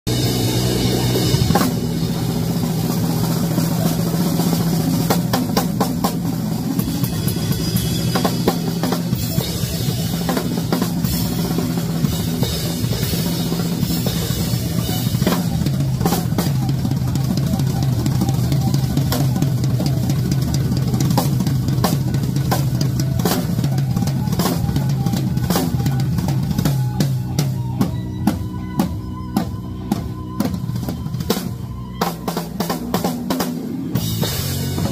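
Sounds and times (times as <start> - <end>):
drum kit playing: 0.0 - 34.9.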